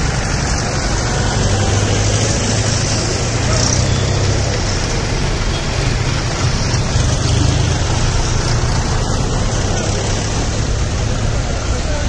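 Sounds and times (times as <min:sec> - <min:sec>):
tractor engines rumbling: 0:00.0 - 0:12.0
traffic noise: 0:00.0 - 0:12.0.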